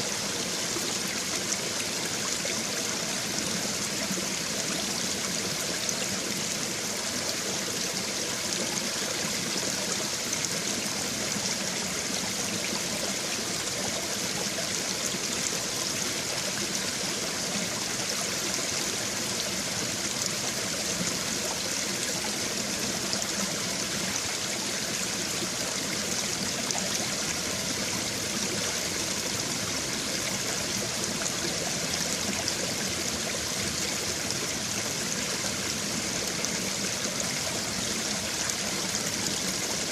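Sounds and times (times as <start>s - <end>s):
stream water running over stones: 0.0s - 39.9s.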